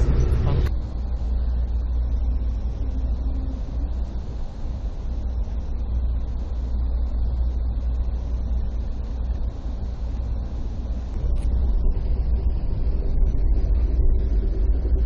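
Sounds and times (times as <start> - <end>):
train rumble from inside coach: 0.0 - 15.0.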